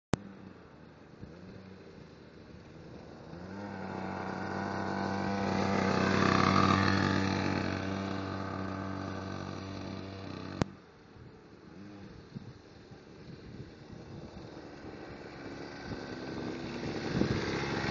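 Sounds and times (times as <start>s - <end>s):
small motorbike engine passing: 0.2s - 17.9s.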